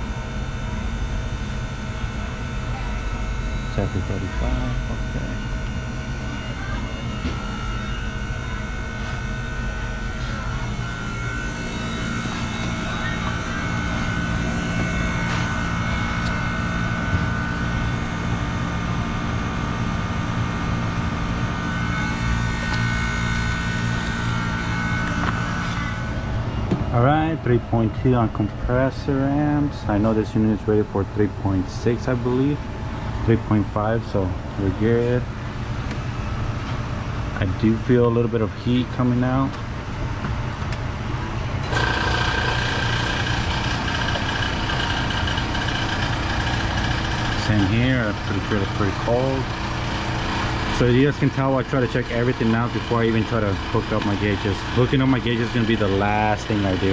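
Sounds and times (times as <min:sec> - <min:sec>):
refrigeration unit humming and whining: 0:00.0 - 0:56.9.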